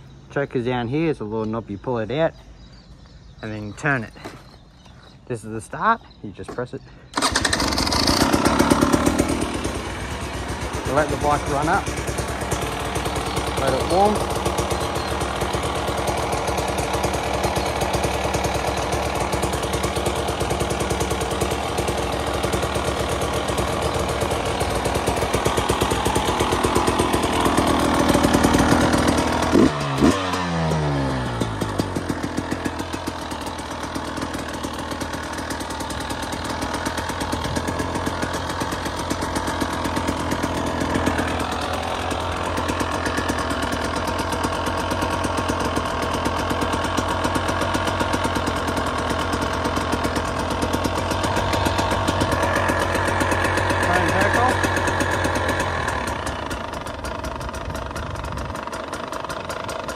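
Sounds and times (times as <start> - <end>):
two-stroke engine idling: 0.0 - 59.9
engine throttle blips: 7.1 - 59.9.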